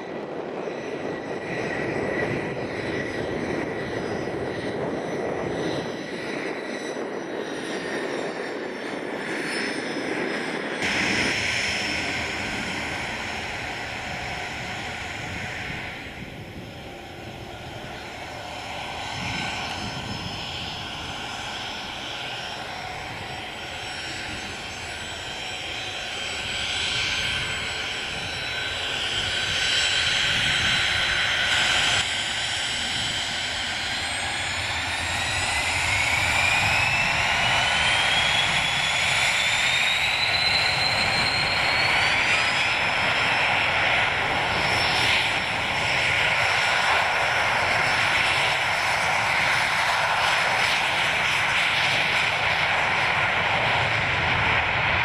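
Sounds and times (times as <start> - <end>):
jet engine roar: 0.0 - 55.0
turbine whine: 0.0 - 55.0.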